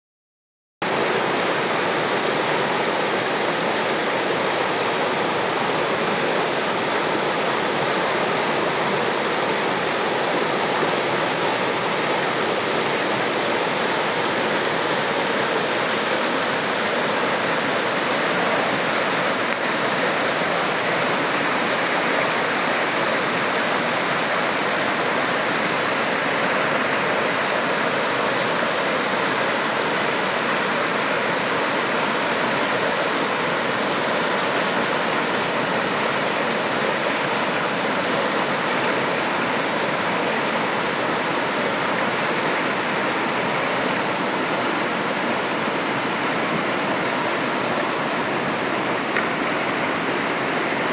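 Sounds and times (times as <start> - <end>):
river rapids roaring: 0.8 - 50.9.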